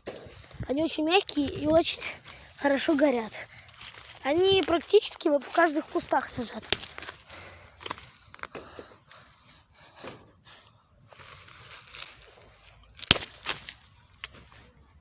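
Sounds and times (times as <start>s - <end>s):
twigs snapping: 0.0s - 8.8s, 11.1s - 14.7s
dry twigs crackling and rustling: 0.0s - 9.4s, 11.1s - 15.0s.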